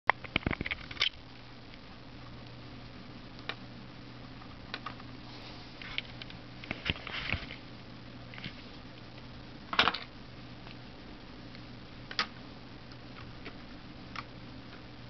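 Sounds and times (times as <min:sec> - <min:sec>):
low electrical hum: 0:00.1 - 0:15.0.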